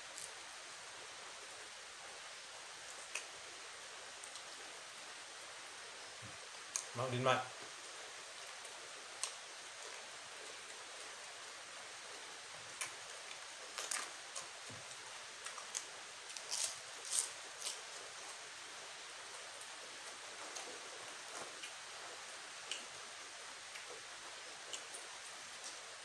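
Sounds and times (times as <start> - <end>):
rain hissing: 0.0 - 26.0.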